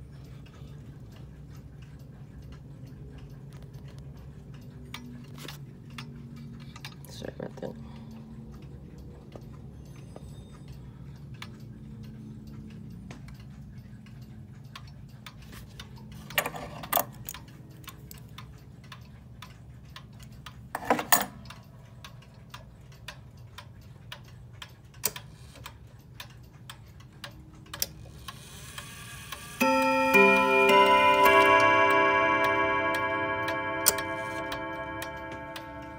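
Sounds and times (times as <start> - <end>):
wall clock ticking: 0.0 - 35.9.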